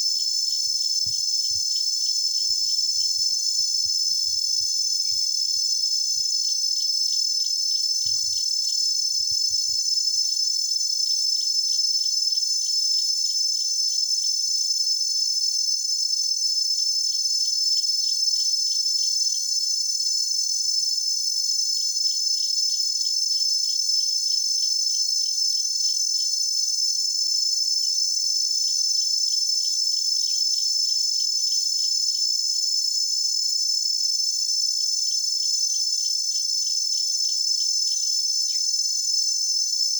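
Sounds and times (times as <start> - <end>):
cicadas buzzing: 0.0 - 16.1, 17.0 - 39.9
pulsing insect chirp: 0.0 - 39.9.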